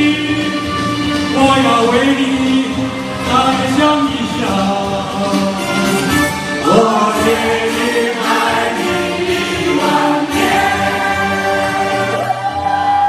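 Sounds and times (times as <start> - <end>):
live band music: 0.0 - 13.0
voices singing long notes: 0.0 - 13.0.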